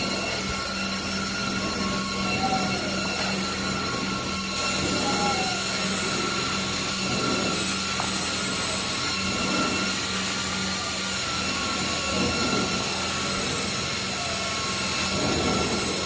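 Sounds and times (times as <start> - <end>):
carpet cleaning machine whining: 0.0 - 16.0.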